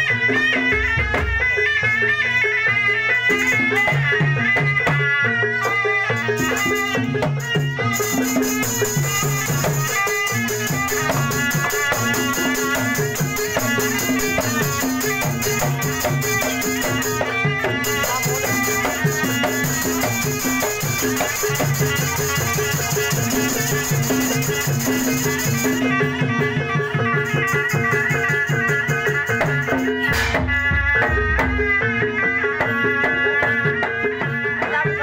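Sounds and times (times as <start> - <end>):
fast hand drumming: 0.0 - 35.0
reedy shawm melody: 0.0 - 35.0.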